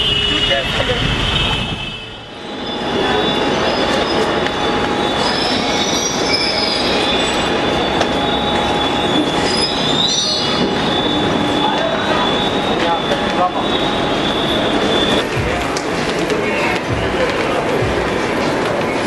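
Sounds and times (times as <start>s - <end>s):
high wheel squeals: 0.0s - 15.4s
train wheels rumbling on track: 0.0s - 19.0s.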